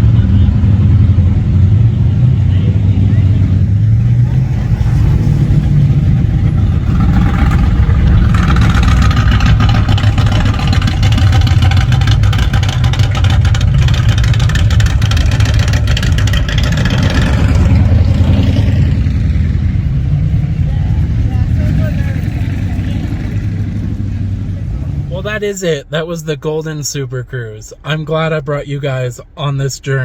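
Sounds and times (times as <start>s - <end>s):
loud vehicle passing: 0.0s - 25.5s
car engines rumbling: 0.0s - 30.0s.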